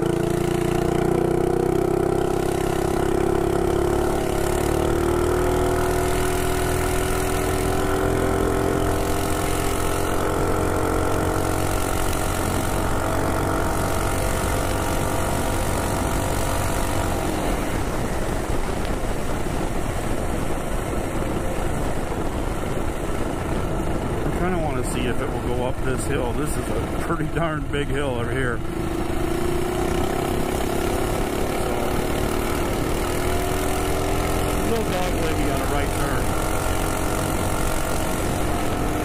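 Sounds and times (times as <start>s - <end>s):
minibike engine pulling hard: 0.0s - 39.0s
rush of wind and tyres: 0.0s - 39.0s.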